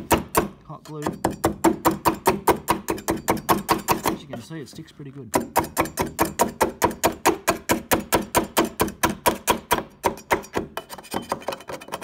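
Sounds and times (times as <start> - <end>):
tool knocking on fibreglass: 0.0 - 12.0.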